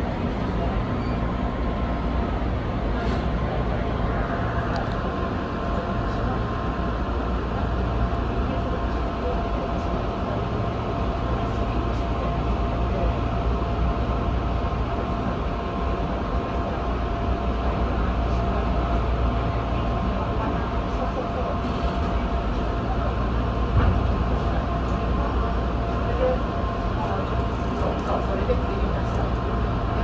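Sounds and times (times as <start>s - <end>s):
train equipment hum: 0.0s - 30.0s.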